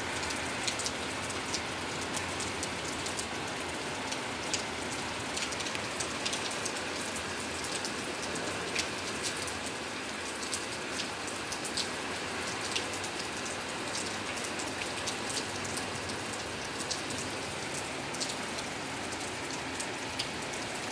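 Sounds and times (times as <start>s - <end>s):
rain falling on pavement: 0.0s - 20.9s
close raindrops ticking: 0.1s - 20.9s.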